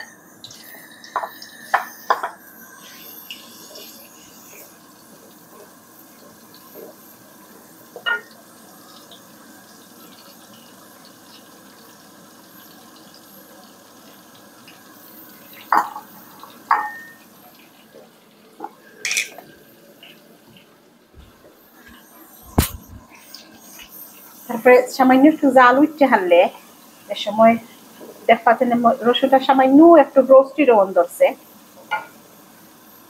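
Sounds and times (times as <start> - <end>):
garlic sizzling in a pan: 0.0 - 33.0.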